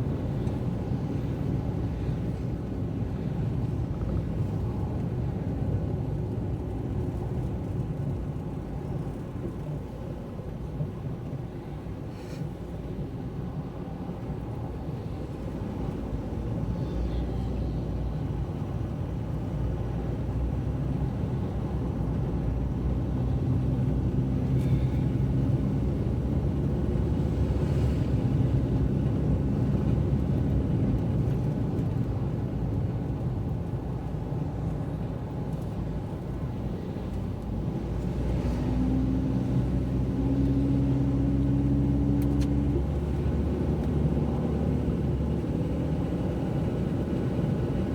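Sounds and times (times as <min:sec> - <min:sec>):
car engine hum and road rumble: 0:00.0 - 0:47.9.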